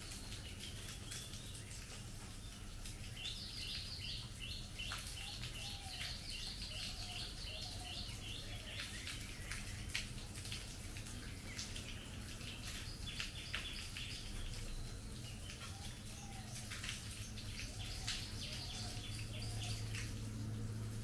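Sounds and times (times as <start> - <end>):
birds chirping: 0.0 - 20.7
rain falling on trees: 0.0 - 21.0
water dripping: 0.0 - 21.0.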